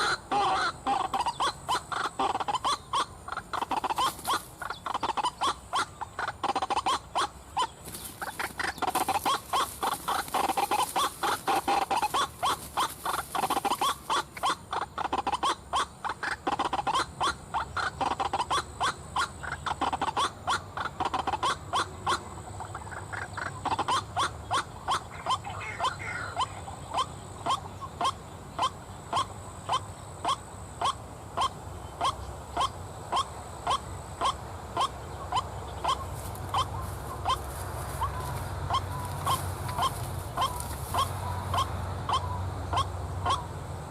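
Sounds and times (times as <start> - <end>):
waterhen croaking calls: 0.0 - 43.9.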